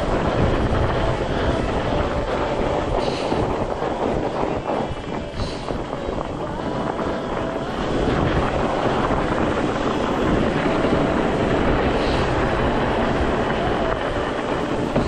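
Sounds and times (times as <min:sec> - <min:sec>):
bike rattling: 0:00.0 - 0:15.0
bike tyres rumbling on trail: 0:00.0 - 0:15.0.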